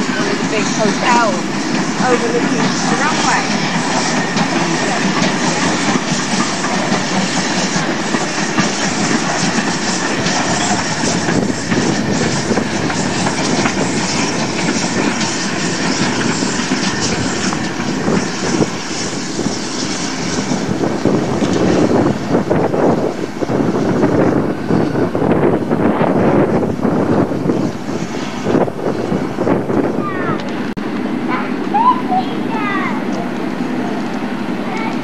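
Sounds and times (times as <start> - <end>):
steam locomotive running: 0.0 - 35.0.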